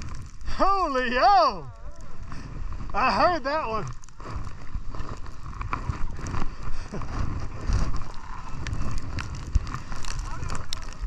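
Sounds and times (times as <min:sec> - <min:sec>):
skis sliding over snow: 0:00.0 - 0:11.0
wind noise on microphone: 0:00.0 - 0:11.0.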